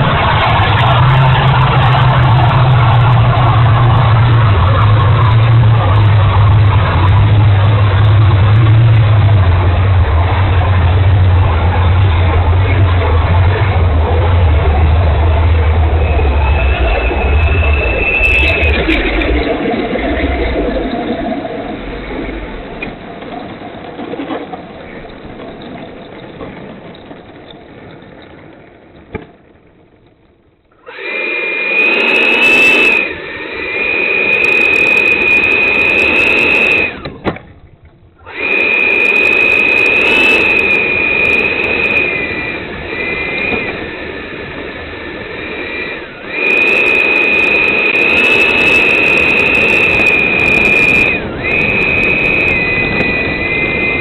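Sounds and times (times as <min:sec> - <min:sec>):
electric ducted fans whining: 0:00.0 - 0:54.0.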